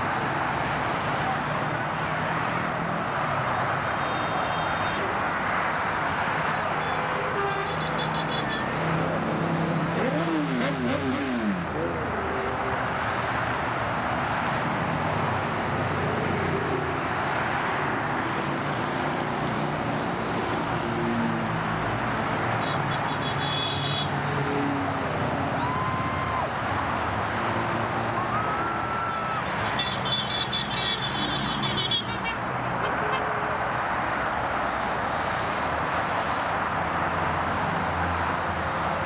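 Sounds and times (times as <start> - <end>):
motorcycle engines and road noise: 0.0 - 39.0.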